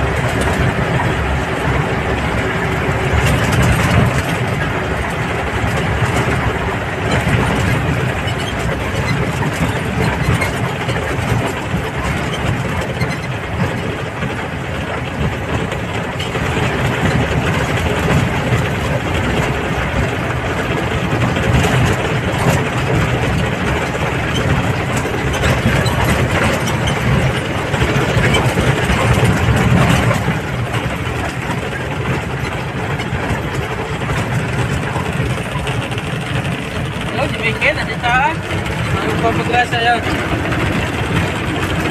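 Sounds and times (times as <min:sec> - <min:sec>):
road rumble: 0:00.0 - 0:41.9
vehicle engine running: 0:00.0 - 0:41.9.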